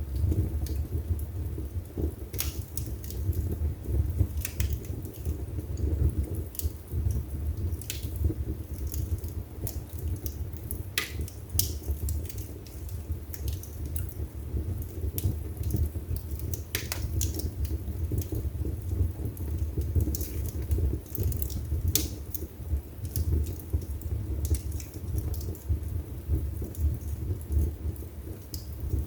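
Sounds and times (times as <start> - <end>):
low rumble of flames: 0.0 - 29.0
wood crackling and popping: 0.0 - 29.0.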